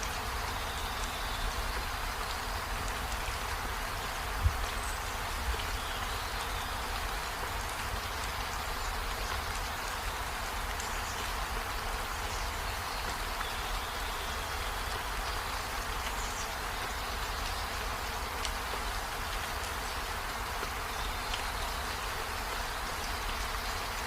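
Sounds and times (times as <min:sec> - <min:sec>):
rain on trees and window: 0:00.0 - 0:24.0.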